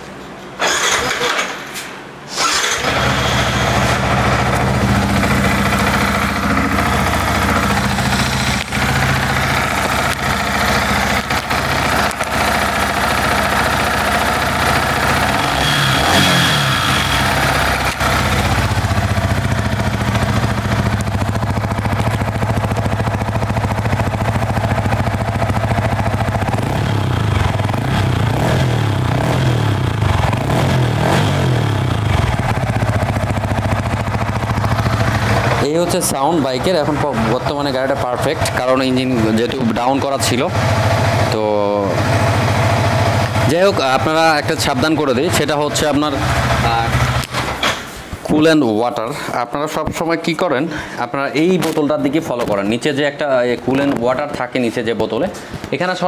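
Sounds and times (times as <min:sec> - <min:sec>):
motorcycle engine starting and idling: 0:00.6 - 0:48.3.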